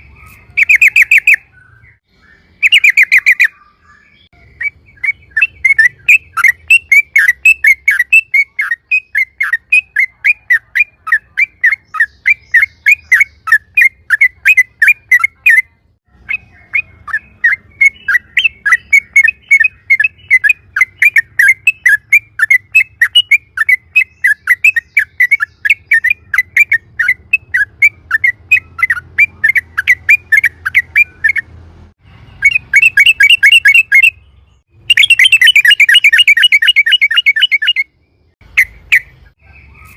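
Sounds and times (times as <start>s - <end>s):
bulbul singing chirping notes: 0.0s - 39.9s.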